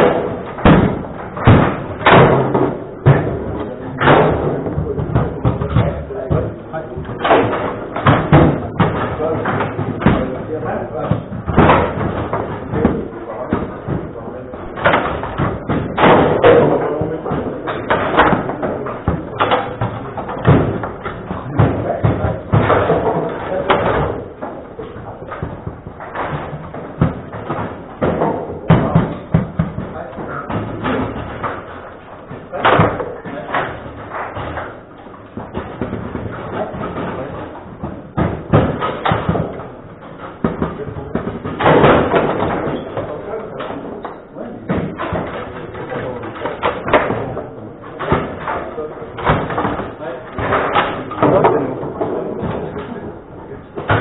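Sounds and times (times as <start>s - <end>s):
table football knocks: 0.0s - 54.0s.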